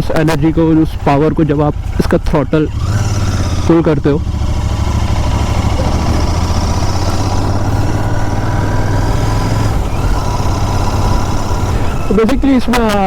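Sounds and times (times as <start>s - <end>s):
motorcycle engine and exhaust: 0.0s - 13.0s.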